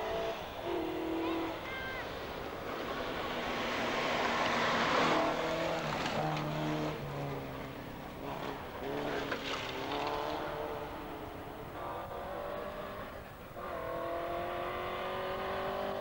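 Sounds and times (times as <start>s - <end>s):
gravel and tyre noise: 0.0s - 16.0s
rally car engine high revs: 0.0s - 16.0s.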